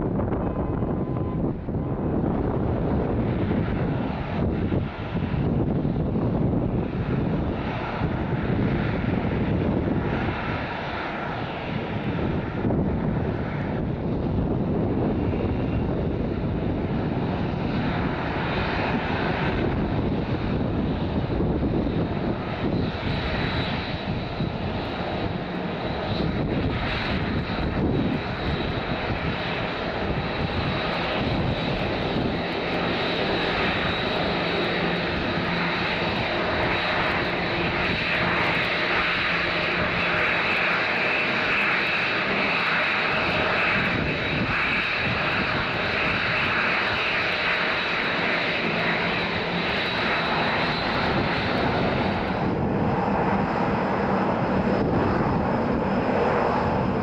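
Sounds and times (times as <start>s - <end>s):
high jet engine whine: 0.0s - 57.0s
jet engines rushing: 0.0s - 57.0s.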